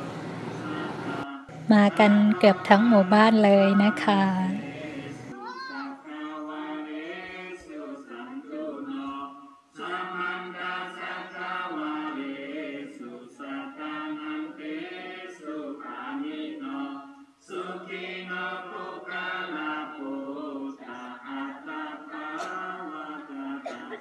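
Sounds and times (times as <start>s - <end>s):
group chanting prayers in unison: 0.3s - 24.0s.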